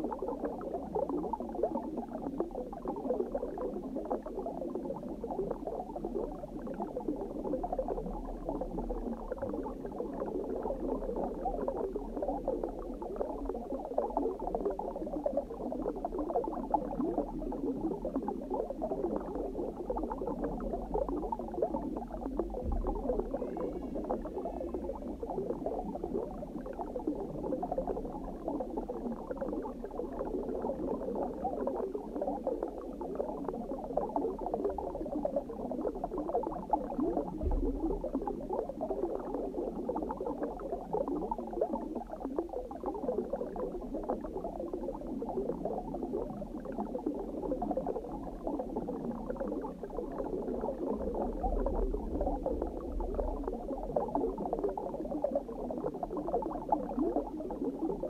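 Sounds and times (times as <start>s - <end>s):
underwater bubbling and gurgling: 0.0s - 58.0s.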